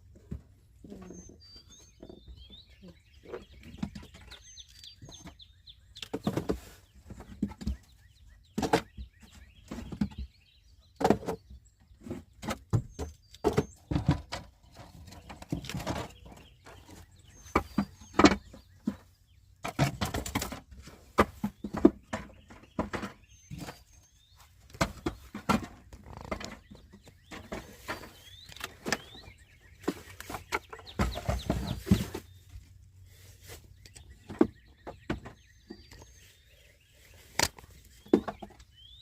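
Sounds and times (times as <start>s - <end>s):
birds chirping: 0.0s - 39.0s
wooden frames knocking and clattering: 3.2s - 36.4s, 37.2s - 39.0s.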